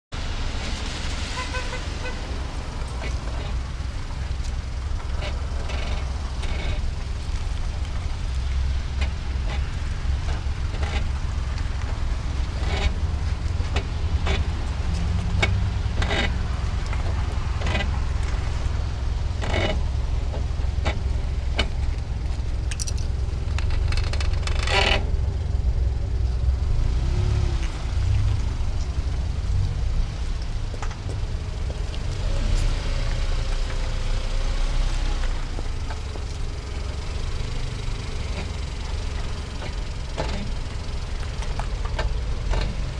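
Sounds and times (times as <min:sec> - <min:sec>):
low vehicle rumble: 0:00.1 - 0:42.9
brake pads squeaking and creaking: 0:01.4 - 0:29.2, 0:30.2 - 0:42.9.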